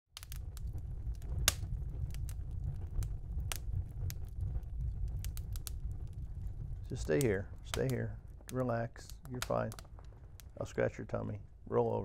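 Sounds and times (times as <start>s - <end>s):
fire pops and snaps: 0.2s - 12.0s
low steady rumble: 0.2s - 12.0s.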